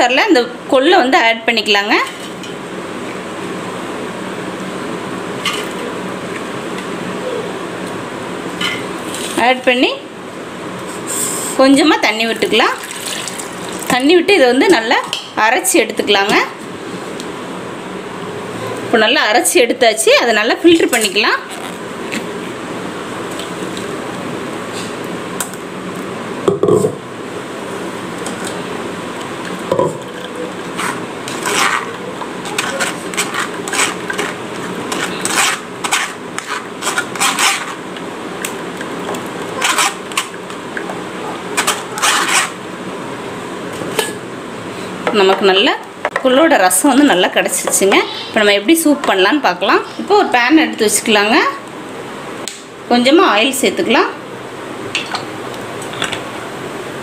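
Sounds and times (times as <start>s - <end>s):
fan-like hum and hiss: 0.0s - 57.0s.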